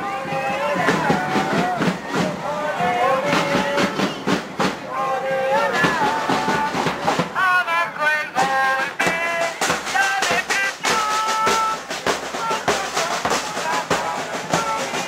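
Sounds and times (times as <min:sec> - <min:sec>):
steady drumbeat: 0:00.0 - 0:15.0
voices singing: 0:00.0 - 0:15.0.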